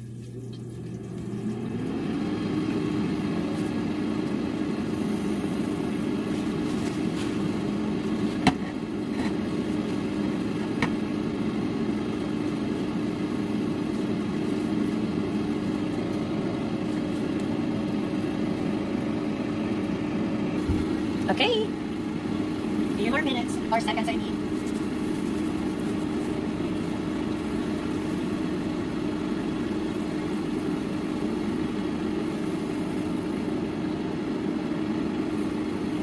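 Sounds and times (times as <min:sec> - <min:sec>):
air fryer fan hum: 0:00.0 - 0:36.0.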